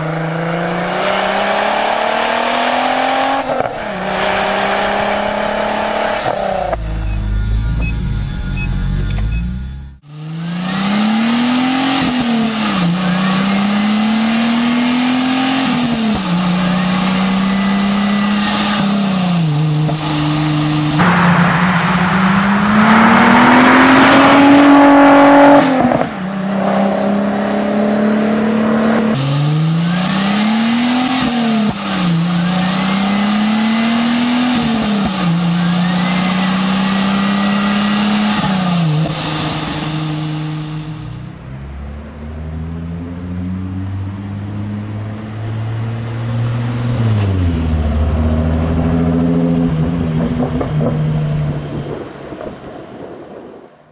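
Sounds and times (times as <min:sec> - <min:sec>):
car engine accelerating hard: 0:00.0 - 0:52.6.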